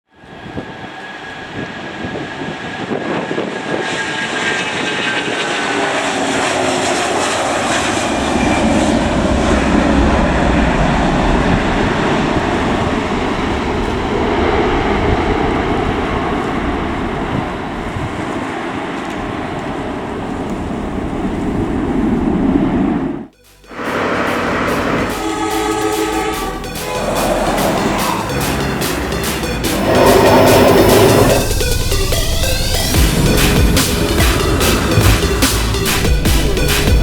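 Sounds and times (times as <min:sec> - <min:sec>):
jet engine whine and roar: 0:00.1 - 0:37.0.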